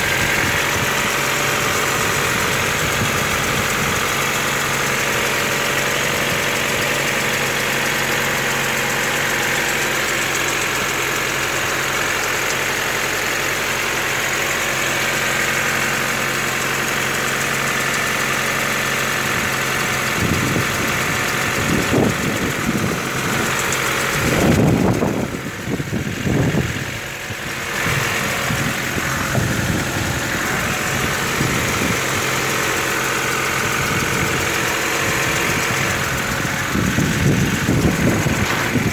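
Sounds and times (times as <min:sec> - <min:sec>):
engine idling with knock: 0:00.0 - 0:38.9.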